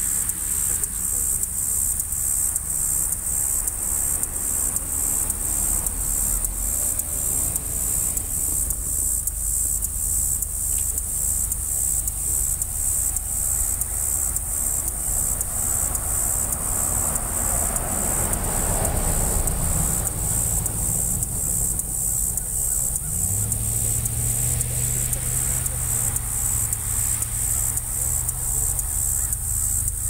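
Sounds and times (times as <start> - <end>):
locomotive low rumble: 0.0 - 30.0
steady high buzz: 0.0 - 30.0.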